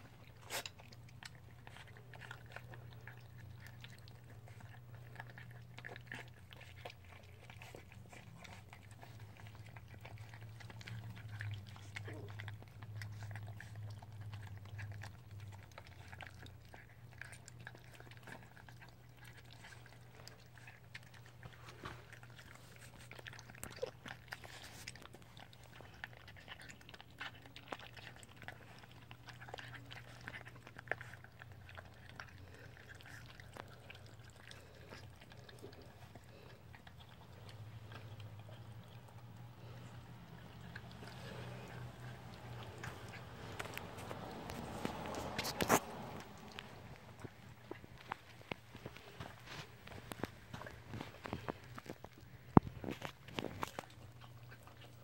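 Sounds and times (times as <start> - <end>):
puppies crunching kibble: 0.0 - 55.0
steady low hum: 0.0 - 55.0.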